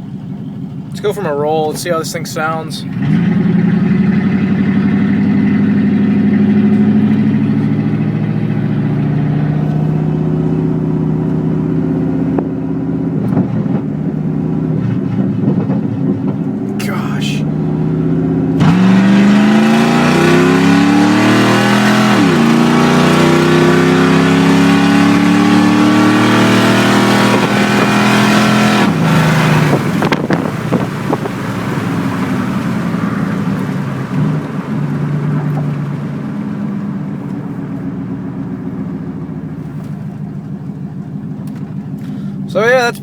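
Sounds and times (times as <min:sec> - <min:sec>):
engine accelerating hard: 0:00.0 - 0:43.0.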